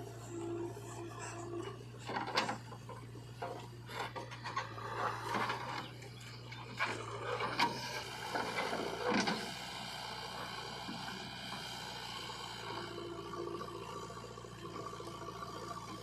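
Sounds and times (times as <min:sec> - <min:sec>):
backhoe engine hum: 0:00.0 - 0:16.0.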